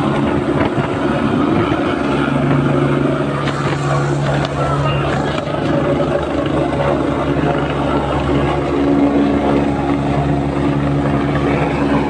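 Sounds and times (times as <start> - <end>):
helicopter engines humming: 0.0 - 12.0
helicopter rotor chopping: 0.0 - 12.0.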